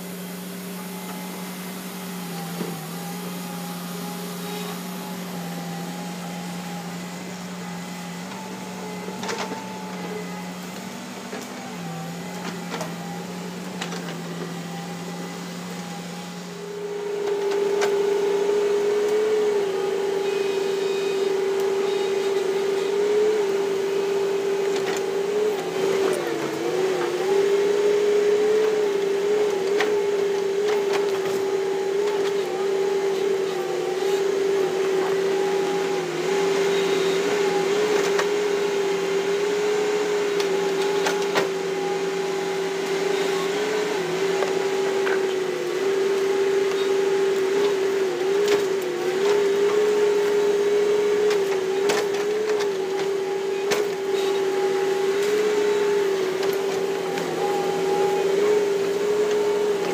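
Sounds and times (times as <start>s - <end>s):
excavator engine and hydraulics whine: 0.0s - 59.9s.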